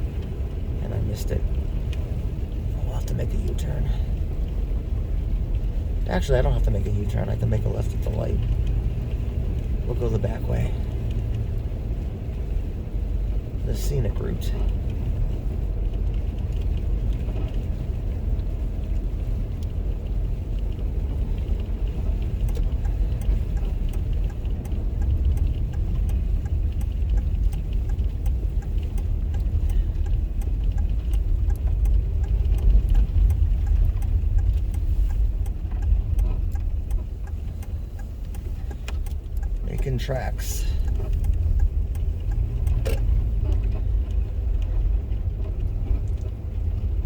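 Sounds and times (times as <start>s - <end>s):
car cabin rumble on snowy road: 0.0s - 47.0s.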